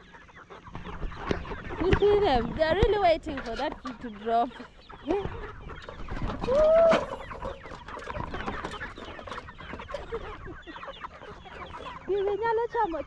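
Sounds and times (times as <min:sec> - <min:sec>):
chickens clucking: 0:00.0 - 0:13.0
drawn-out chicken call: 0:00.0 - 0:13.0.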